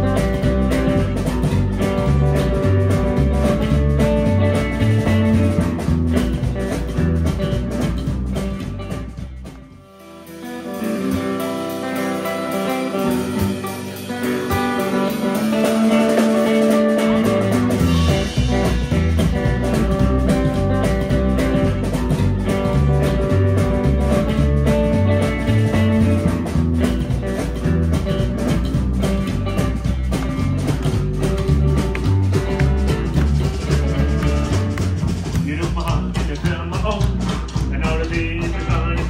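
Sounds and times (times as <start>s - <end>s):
upright double bass plucked: 0.0s - 9.8s, 11.4s - 39.0s
drum kit: 0.0s - 39.0s
hollow-body electric guitar: 0.0s - 39.0s.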